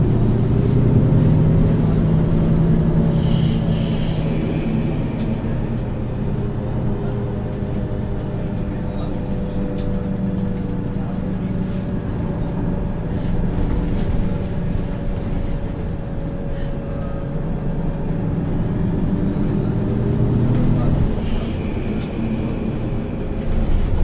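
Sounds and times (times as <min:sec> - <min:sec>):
bus engine drone: 0:00.0 - 0:24.0
drivetrain whine: 0:00.0 - 0:24.0.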